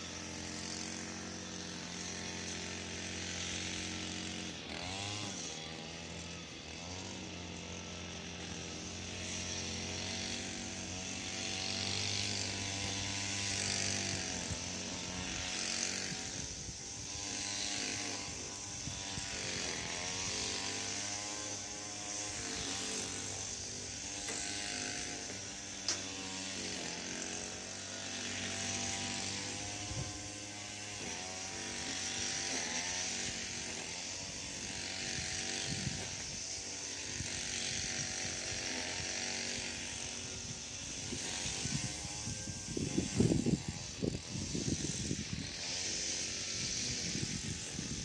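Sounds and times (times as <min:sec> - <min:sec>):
string trimmer engine running: 0:00.0 - 0:48.0.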